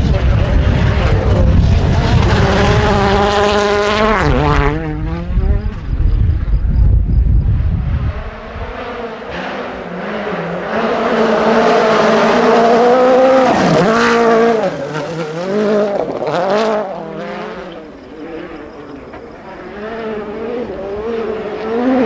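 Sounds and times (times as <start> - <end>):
rally car engine at full throttle: 0.0 - 22.0
second rally car approaching: 0.0 - 22.0.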